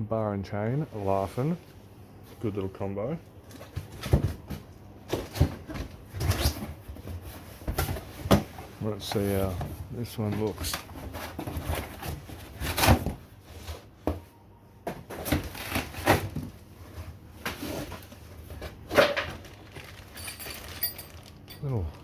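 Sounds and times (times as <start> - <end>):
cardboard and plastic rustling: 0.9 - 22.0.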